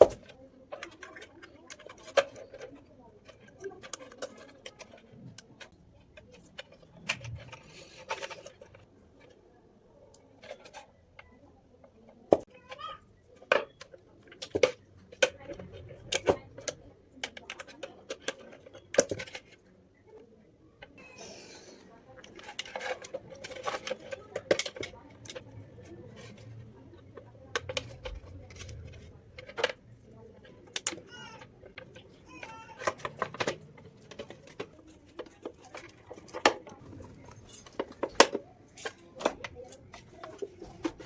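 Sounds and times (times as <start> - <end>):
small hard parts clicking and clinking: 0.0 - 20.2, 20.8 - 41.0.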